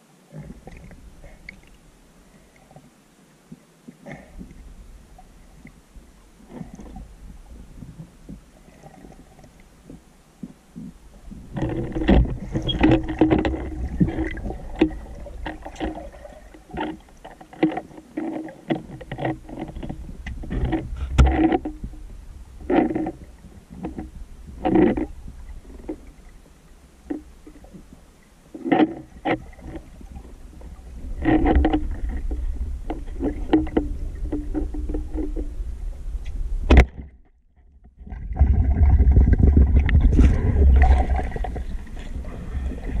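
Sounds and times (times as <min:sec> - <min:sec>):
underwater rumble of moving water: 0:00.0 - 0:43.0.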